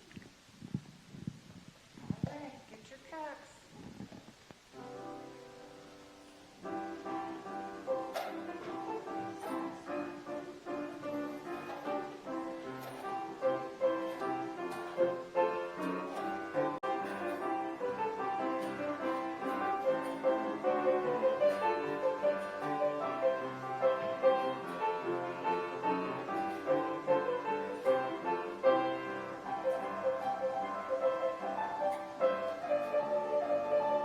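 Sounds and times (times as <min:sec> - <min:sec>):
piano music: 0:04.7 - 0:34.0.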